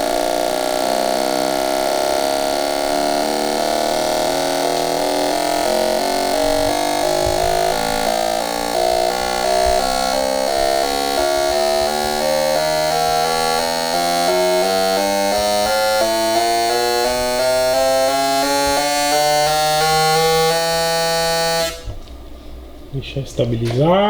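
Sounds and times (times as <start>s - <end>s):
synthesizer music: 0.0s - 21.9s.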